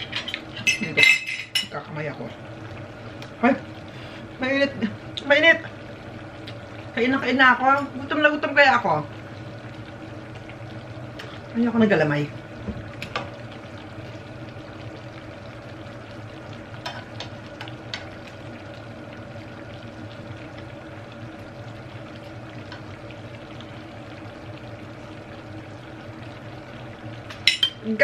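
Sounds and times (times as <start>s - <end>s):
stew bubbling in a pan: 0.0s - 28.0s.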